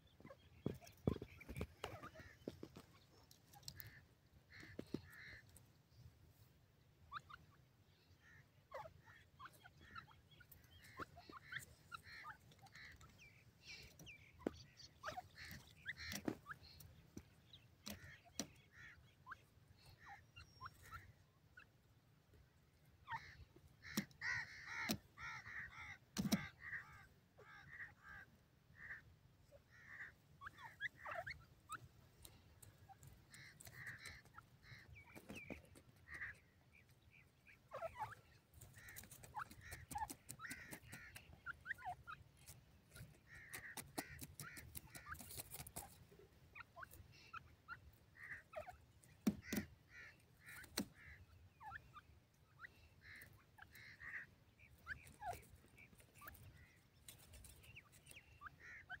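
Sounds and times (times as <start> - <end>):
francolins calling: 0.0 - 6.1, 6.9 - 59.0.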